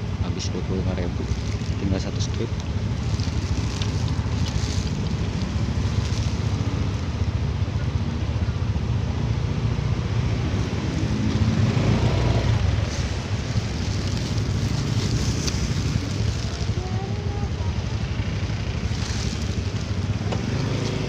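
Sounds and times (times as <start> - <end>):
small scooter engine running: 0.0 - 21.0.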